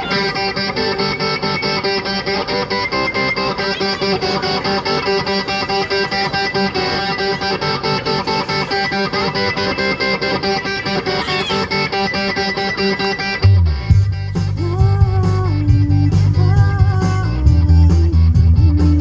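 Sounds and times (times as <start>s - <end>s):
guitar picking over held chords: 0.0s - 19.0s.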